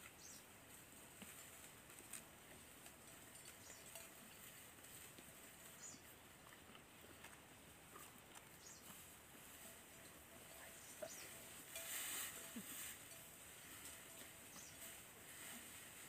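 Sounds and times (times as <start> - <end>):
faint background hiss: 0.0 - 16.0
soft ticks of dry grass stalks: 0.0 - 16.0.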